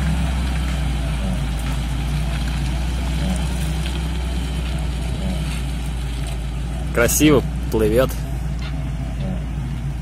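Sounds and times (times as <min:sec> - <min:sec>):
car engine rumbling: 0:00.0 - 0:10.0
tyres through muddy puddle: 0:00.0 - 0:10.0.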